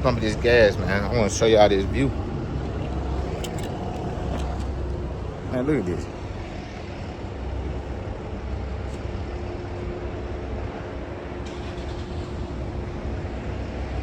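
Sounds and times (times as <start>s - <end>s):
faint steady hum: 0.0s - 14.0s
low rumble of vehicle noise: 0.0s - 14.0s.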